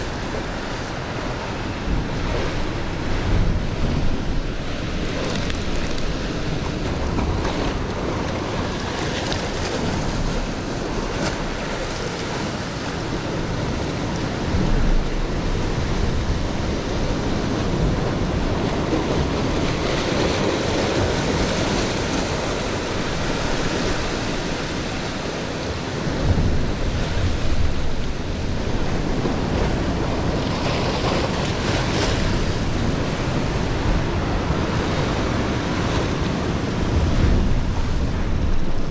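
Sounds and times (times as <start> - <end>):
sea surf breaking on rocks: 0.0 - 38.9
wind buffeting microphone: 0.0 - 38.9.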